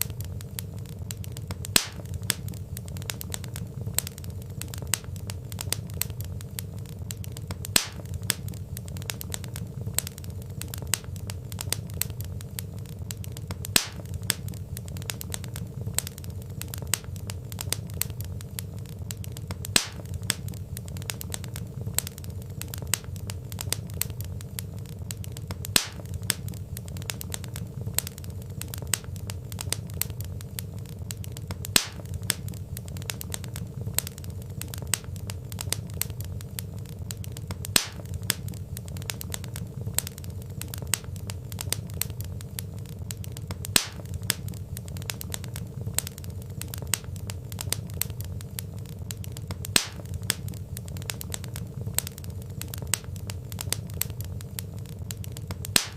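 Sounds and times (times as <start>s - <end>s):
log fire crackling: 0.0s - 55.9s
low steady rumble: 0.0s - 55.9s.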